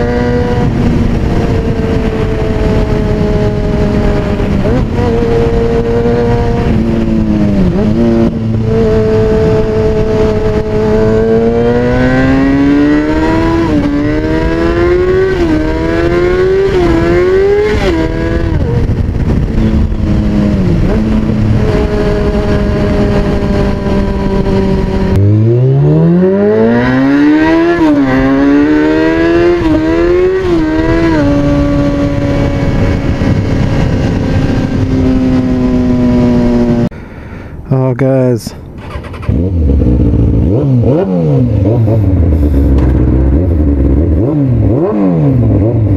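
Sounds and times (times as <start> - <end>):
motorcycle engine revving: 0.0 - 36.9, 38.8 - 45.9.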